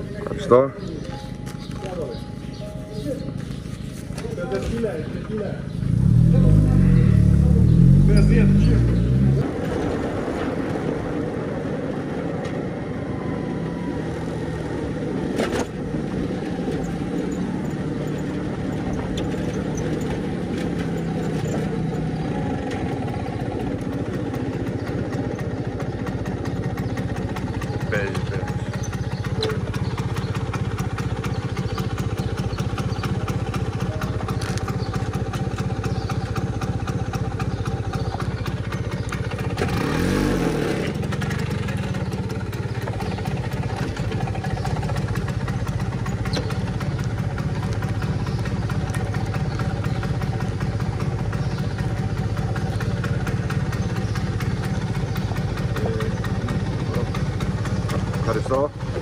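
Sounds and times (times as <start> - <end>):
scooter engine running: 0.0 - 59.0.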